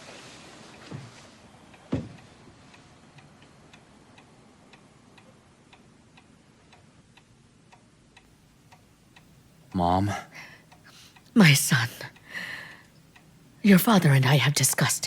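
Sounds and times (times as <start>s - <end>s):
clock ticking: 2.2s - 15.0s.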